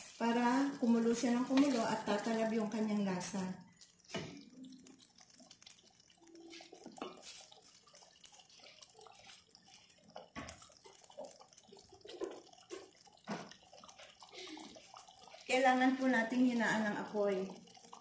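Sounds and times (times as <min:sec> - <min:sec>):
stew bubbling in a pot: 0:00.0 - 0:18.0.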